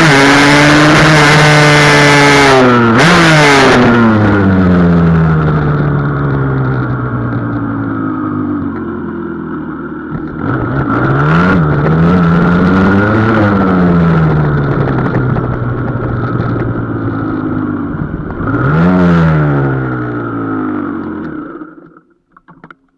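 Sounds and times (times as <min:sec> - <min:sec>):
two-stroke motorcycle engine revving: 0:00.0 - 0:22.1.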